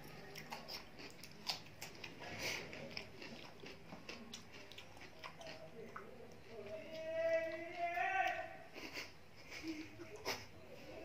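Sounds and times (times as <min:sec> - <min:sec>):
person chewing food: 0:00.0 - 0:10.5.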